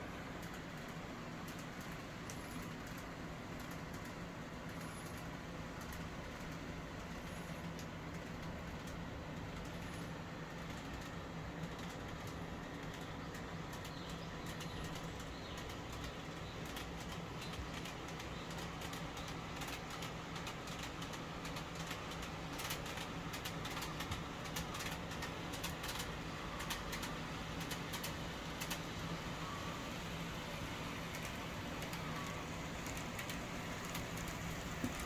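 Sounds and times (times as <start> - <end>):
light clicking of track: 0.0 - 35.0.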